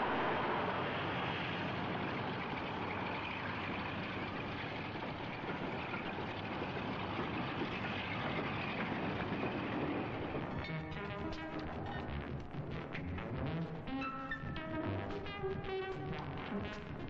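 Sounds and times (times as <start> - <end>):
diesel train engine and running noise: 0.0 - 14.0.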